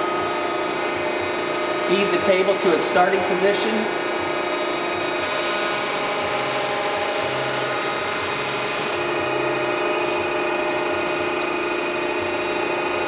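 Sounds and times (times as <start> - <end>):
surface grinder humming and whining: 0.0 - 13.0.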